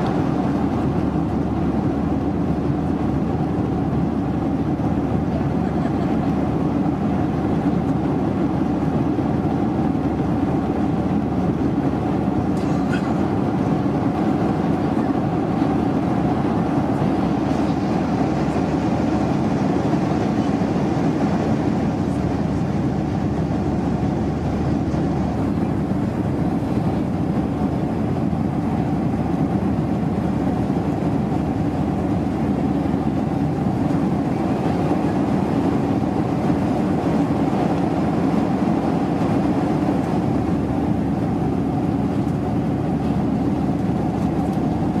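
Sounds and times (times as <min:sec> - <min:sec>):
airliner cabin drone: 0:00.0 - 0:45.0.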